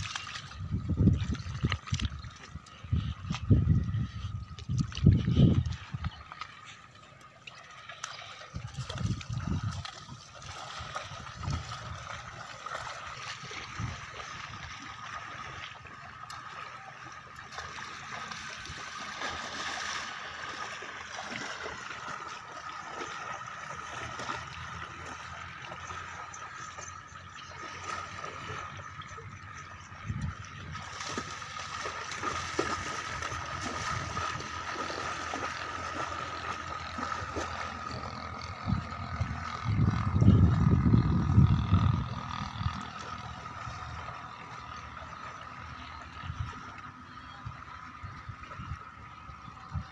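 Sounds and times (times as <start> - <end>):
animals sloshing through water: 0.0 - 40.6, 41.5 - 49.9.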